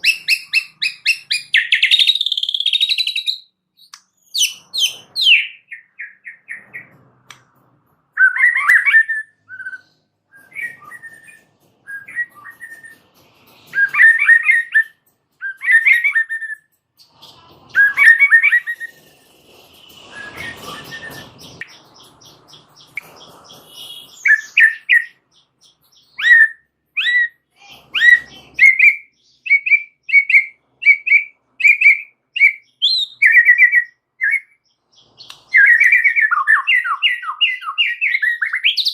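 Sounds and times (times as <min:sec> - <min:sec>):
songbird singing whistled phrases: 0:00.0 - 0:06.8, 0:08.2 - 0:13.0, 0:13.7 - 0:16.7, 0:17.7 - 0:19.0, 0:20.0 - 0:38.9.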